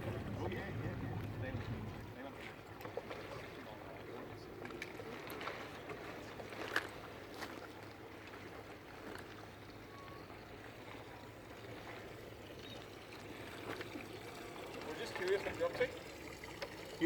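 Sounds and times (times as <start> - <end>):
water lapping: 0.0 - 17.0.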